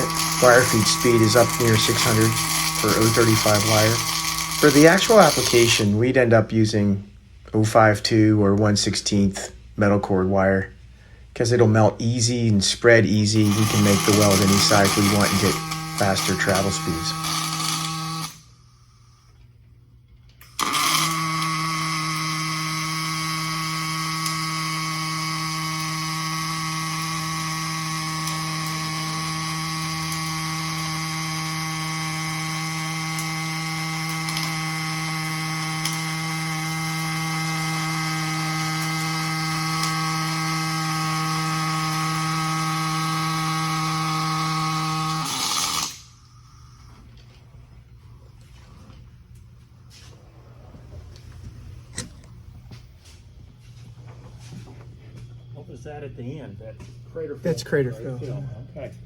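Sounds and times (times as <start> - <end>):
welding arc humming and crackling: 0.0 - 6.2, 12.1 - 59.0.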